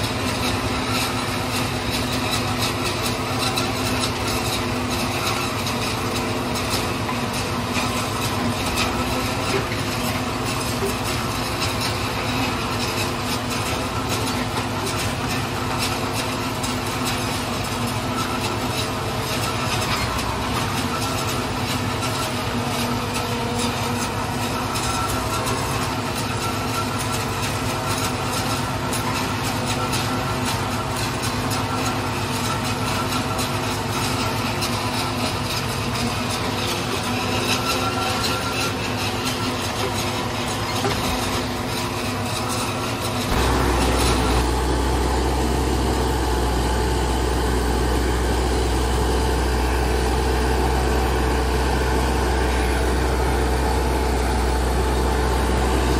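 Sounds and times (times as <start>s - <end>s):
forage harvester chopping corn: 0.0s - 55.9s
tractor engine under load: 0.0s - 55.9s.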